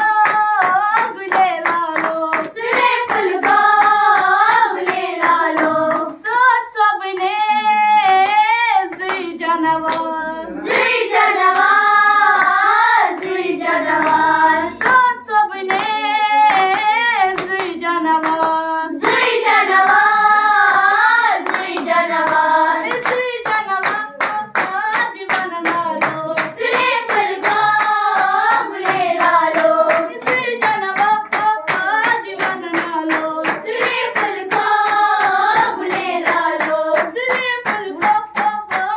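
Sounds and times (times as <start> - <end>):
girls singing into microphone: 0.0 - 38.9
hands clapping: 0.0 - 38.9.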